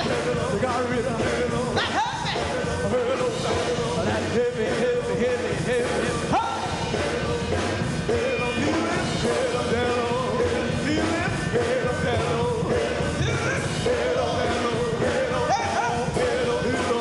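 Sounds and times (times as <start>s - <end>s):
person singing: 0.0s - 17.0s
gospel band playing live: 2.6s - 17.0s.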